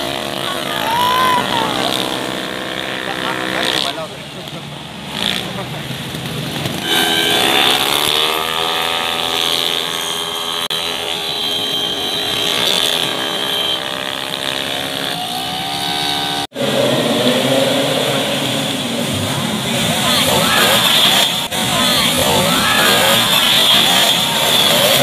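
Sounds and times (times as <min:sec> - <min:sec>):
motorcycle engines revving hard: 0:00.0 - 0:25.0
racing scooters: 0:00.0 - 0:25.0.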